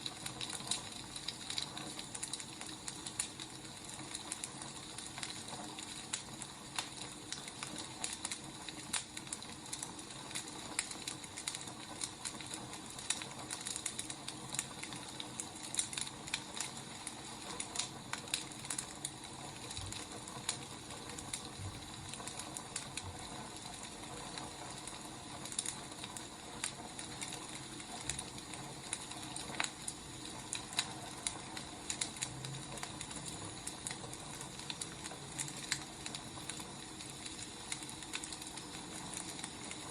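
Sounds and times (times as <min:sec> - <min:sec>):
steady hiss: 0:00.0 - 0:39.9
wood fire crackling and popping: 0:00.0 - 0:39.9.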